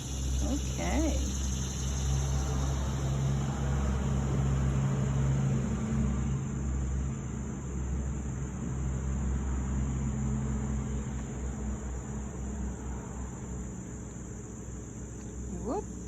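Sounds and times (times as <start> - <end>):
insects buzzing: 0.0 - 16.0
low traffic rumble: 0.0 - 16.0.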